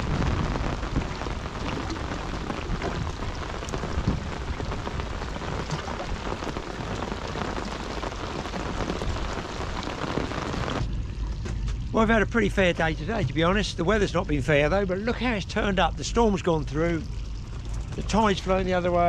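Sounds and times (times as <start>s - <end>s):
low rumble: 0.0s - 19.0s
rain pattering on water: 0.0s - 19.0s.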